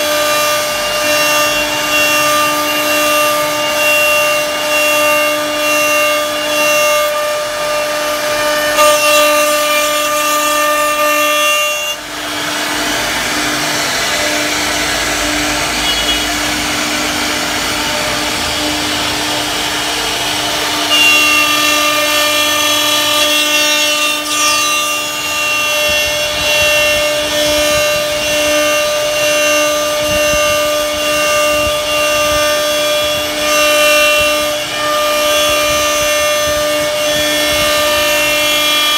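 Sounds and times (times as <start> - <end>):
bit cutting wood: 0.0 - 38.9
router spindle whine: 0.0 - 38.9.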